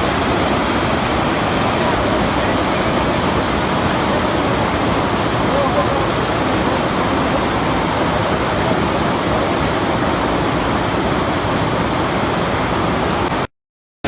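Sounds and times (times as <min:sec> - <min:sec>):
river rushing: 0:00.0 - 0:13.5.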